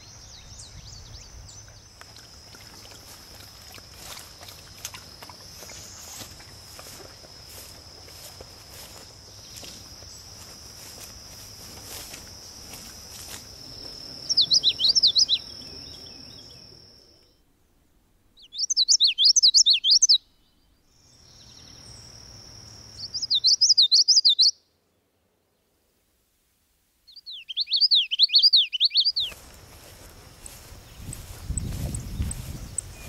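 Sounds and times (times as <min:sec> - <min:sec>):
songbird chirping: 0:00.0 - 0:17.5, 0:18.3 - 0:25.8, 0:27.0 - 0:33.0.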